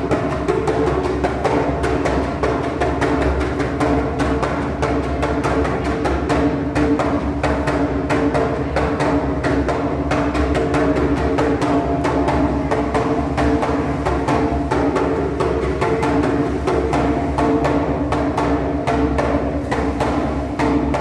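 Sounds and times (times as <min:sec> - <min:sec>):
rapid percussion strikes: 0:00.0 - 0:21.0.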